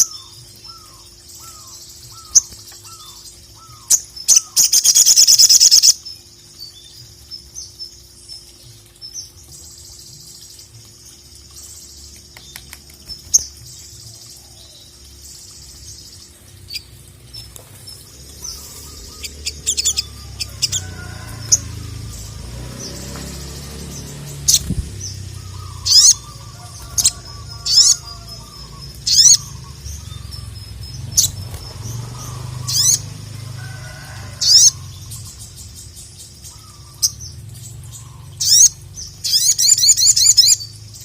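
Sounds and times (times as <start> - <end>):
bird singing trills and chirps: 0.0 - 41.0
low rumbling background: 6.0 - 41.0.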